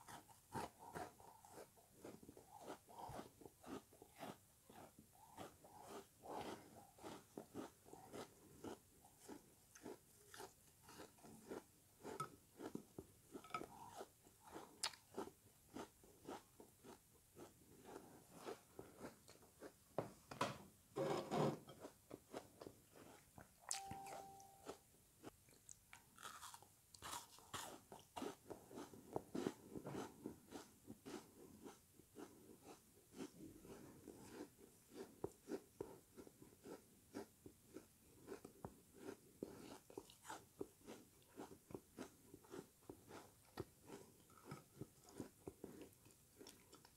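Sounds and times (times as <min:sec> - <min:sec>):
crunchy chewing: 0:00.0 - 0:19.8, 0:21.7 - 0:46.9.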